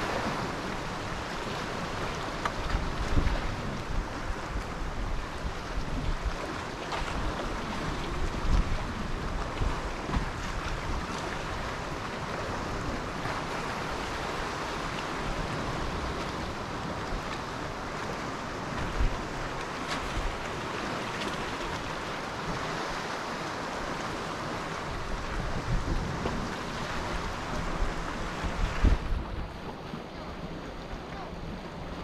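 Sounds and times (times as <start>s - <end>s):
wind buffeting microphone: 0.0s - 20.8s, 23.7s - 32.0s
sea surf washing on shore: 0.0s - 32.0s.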